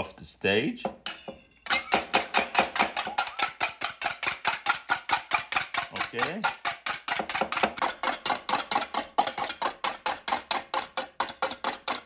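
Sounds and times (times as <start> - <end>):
whisk beating in a steel bowl: 1.9 - 12.0.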